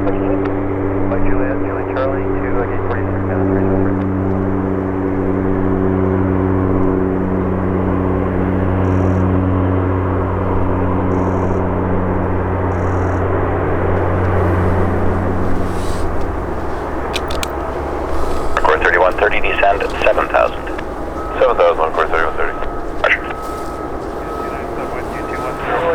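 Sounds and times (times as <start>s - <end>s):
jet engines humming: 0.0s - 25.9s.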